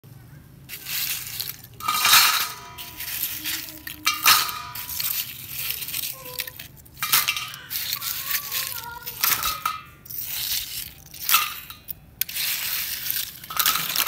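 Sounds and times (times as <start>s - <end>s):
seashells clattering in metal bowl: 0.7s - 14.0s.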